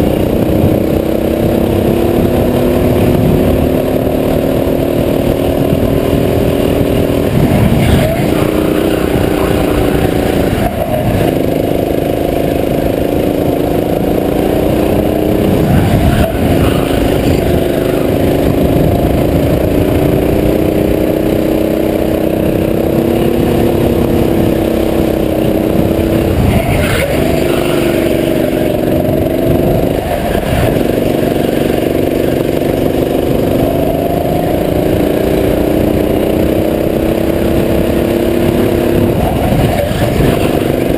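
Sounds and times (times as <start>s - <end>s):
go-kart engine running hard: 0.0s - 40.9s.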